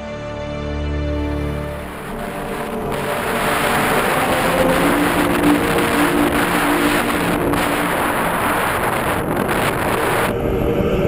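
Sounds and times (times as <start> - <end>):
wind rushing on microphone: 1.7 - 11.0.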